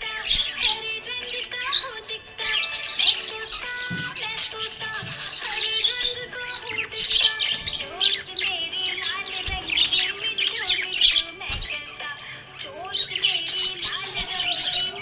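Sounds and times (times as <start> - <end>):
budgerigar chirping and warbling: 0.0 - 15.0.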